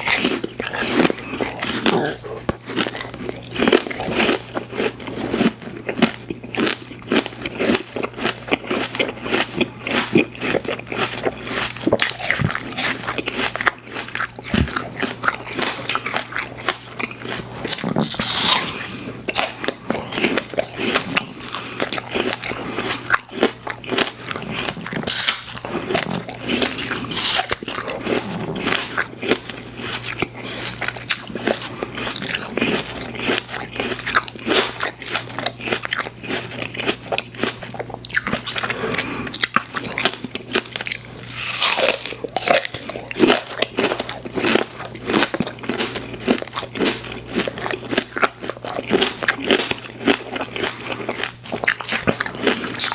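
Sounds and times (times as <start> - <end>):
steady low hum: 0.0 - 45.0
chewing and crunching sweets: 0.0 - 52.9.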